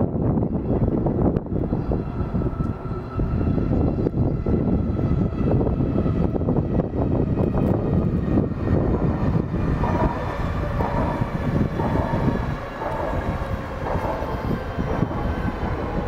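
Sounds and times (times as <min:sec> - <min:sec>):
electric train passing: 0:00.0 - 0:16.0
wheel on rail rumble: 0:00.0 - 0:16.0.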